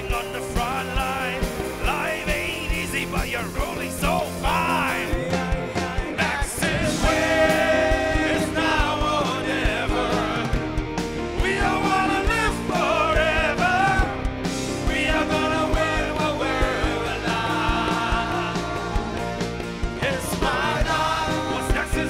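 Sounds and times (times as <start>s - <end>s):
person singing: 0.0s - 10.7s, 14.8s - 22.0s
steady drum beat: 0.0s - 22.0s.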